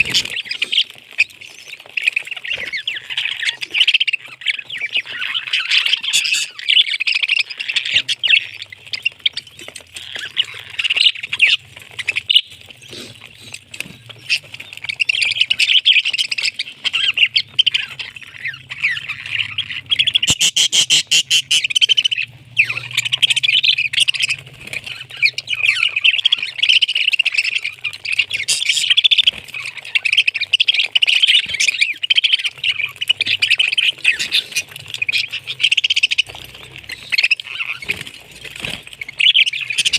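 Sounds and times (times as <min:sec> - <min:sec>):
parrot chattering and squawking: 0:00.0 - 0:39.9.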